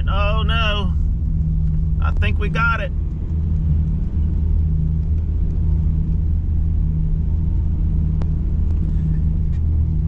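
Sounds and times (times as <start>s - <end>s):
faint hum: 0.0s - 10.0s
truck engine and road noise: 0.0s - 10.0s.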